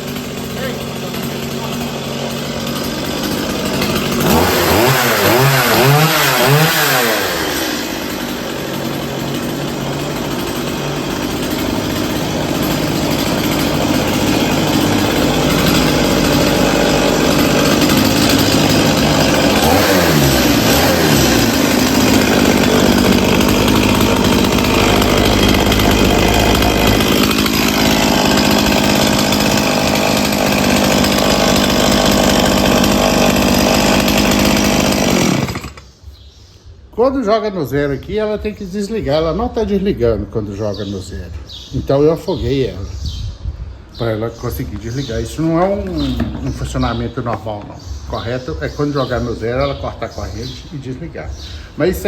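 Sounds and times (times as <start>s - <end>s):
chainsaw revving: 0.0s - 35.9s, 38.2s - 43.1s, 43.9s - 52.0s.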